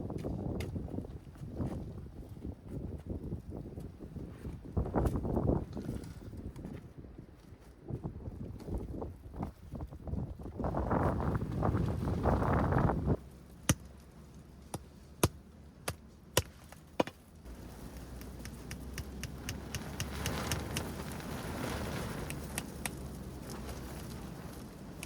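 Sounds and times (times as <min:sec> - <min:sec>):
wind rushing over microphone: 0:00.0 - 0:13.2, 0:17.5 - 0:25.0.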